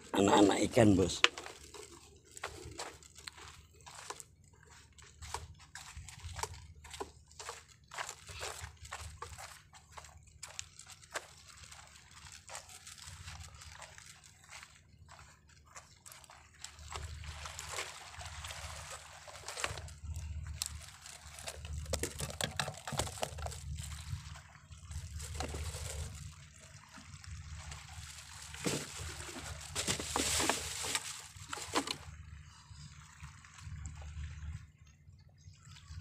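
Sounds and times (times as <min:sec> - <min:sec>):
small waves lapping on rocks: 0:00.0 - 0:34.6.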